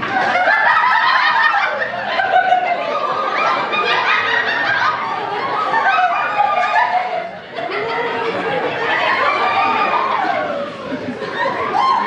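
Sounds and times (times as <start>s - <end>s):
people laughing and chuckling: 0.0s - 12.0s.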